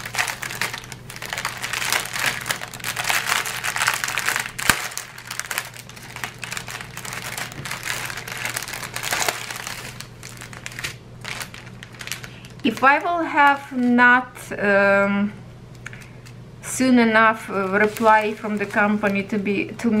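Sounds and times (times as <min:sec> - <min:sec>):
plastic bags crinkling: 0:00.0 - 0:13.9, 0:17.5 - 0:20.0.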